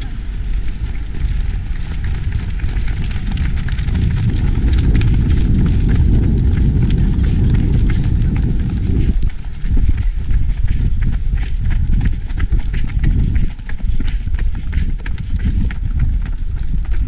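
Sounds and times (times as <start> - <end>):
runners' footfalls on pavement: 0.0 - 17.0
wind buffeting microphone: 0.0 - 17.0.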